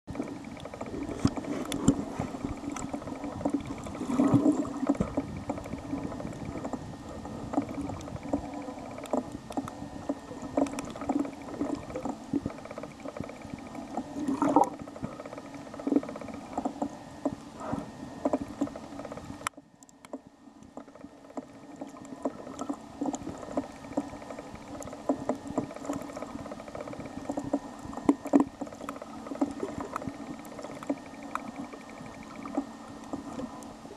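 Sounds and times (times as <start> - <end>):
sharp clicks and crackles: 0.1 - 17.5, 18.2 - 33.8
underwater rumble of moving water: 0.1 - 33.9.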